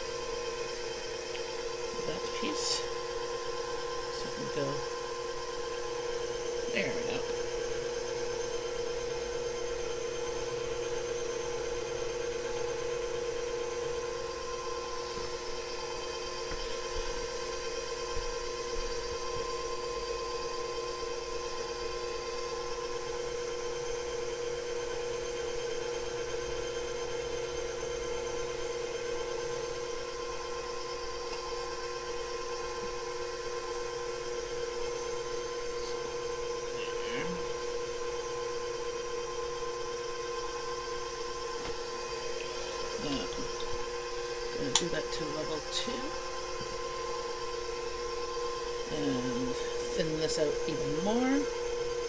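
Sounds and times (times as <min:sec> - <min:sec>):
stand mixer motor humming: 0:00.0 - 0:52.0.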